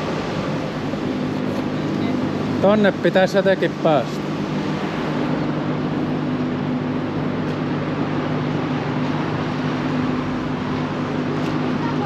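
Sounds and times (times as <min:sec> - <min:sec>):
road traffic noise: 0:00.0 - 0:12.0
steady low hum: 0:00.0 - 0:12.0.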